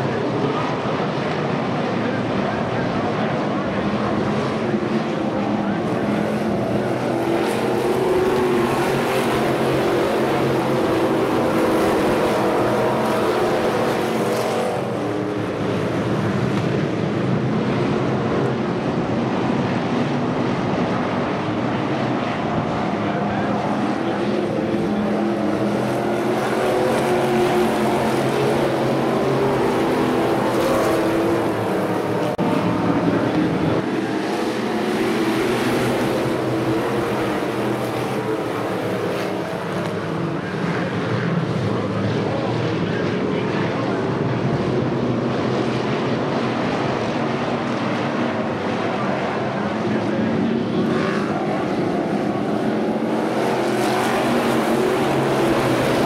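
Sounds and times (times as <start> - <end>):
race car engines running hard: 0.0 - 56.0.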